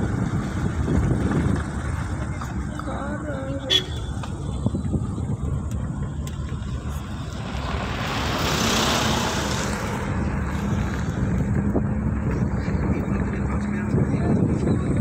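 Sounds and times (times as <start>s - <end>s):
vehicle engine and road rumble: 0.0s - 15.0s
wind noise: 0.0s - 15.0s.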